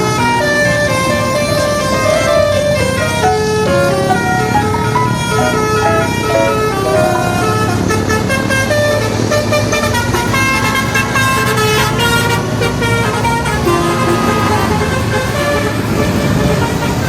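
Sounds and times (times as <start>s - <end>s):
train horn playing a tune: 0.0s - 17.0s.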